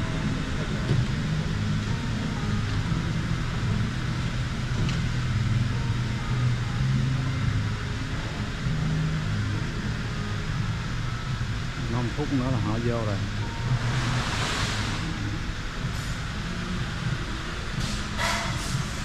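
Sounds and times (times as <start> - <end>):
ventilation hum and rumble: 0.0 - 19.0.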